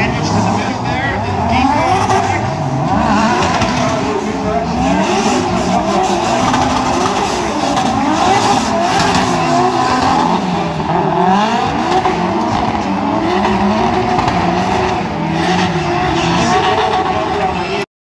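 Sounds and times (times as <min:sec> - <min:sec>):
car engines revving: 0:00.0 - 0:17.9
tyres skidding: 0:00.0 - 0:17.9.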